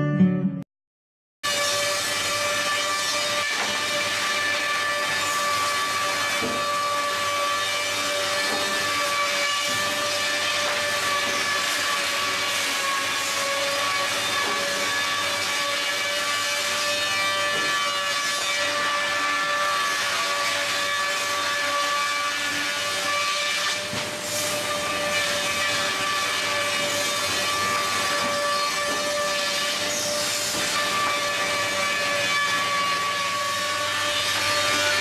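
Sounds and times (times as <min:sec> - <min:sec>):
wood planer whining: 0:01.5 - 0:35.0.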